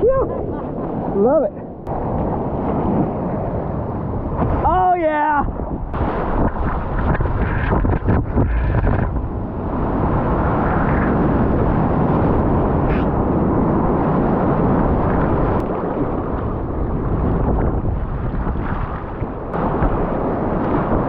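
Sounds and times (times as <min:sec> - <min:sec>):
surf rushing whitewater: 0:00.0 - 0:21.0.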